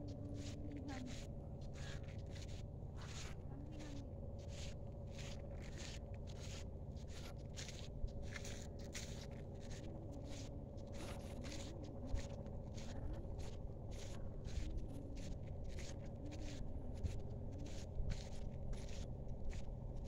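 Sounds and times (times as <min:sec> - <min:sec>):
footsteps on sandy path: 0:00.0 - 0:20.0.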